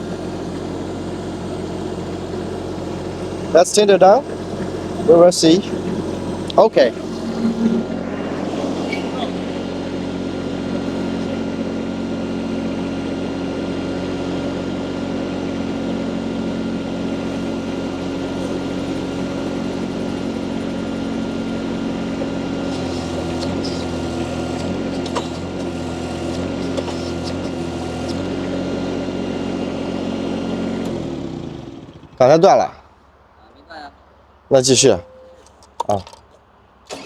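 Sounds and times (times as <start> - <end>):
loader engine running: 0.0 - 34.4, 35.0 - 37.0.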